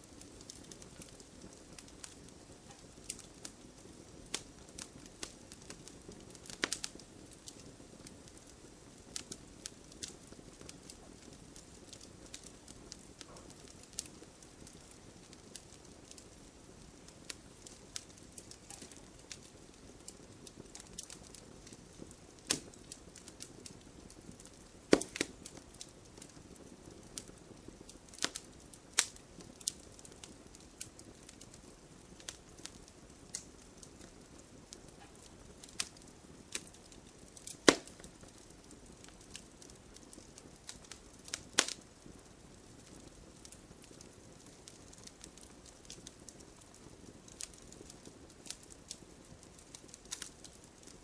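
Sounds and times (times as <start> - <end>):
low rumble of flames: 0.0 - 51.0
wood fire crackling: 0.0 - 51.0.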